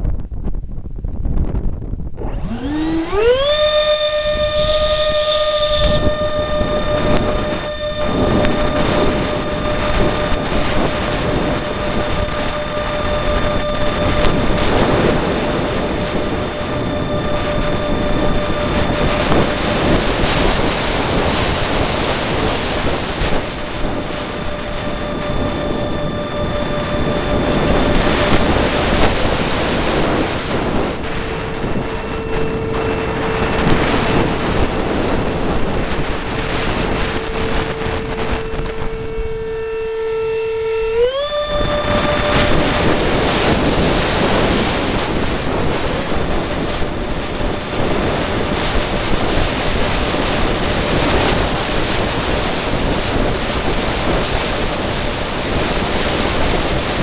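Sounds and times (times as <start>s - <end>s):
ducted fan whine: 0.0s - 57.0s
wind rushing over microphone: 0.0s - 57.0s.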